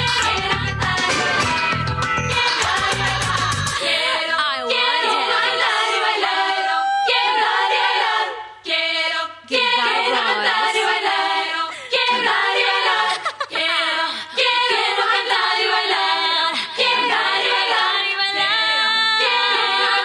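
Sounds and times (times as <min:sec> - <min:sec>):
girls singing pop song in harmony: 0:00.0 - 0:20.0.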